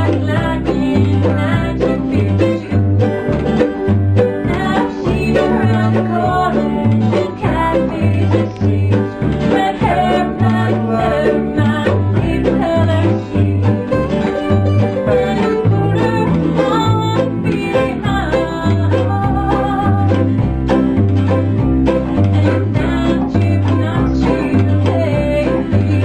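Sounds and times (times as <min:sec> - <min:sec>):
mandolin: 0:00.0 - 0:26.0
picked banjo: 0:00.0 - 0:26.0
strummed acoustic guitar: 0:00.0 - 0:26.0
upright bass plucking: 0:00.0 - 0:26.0.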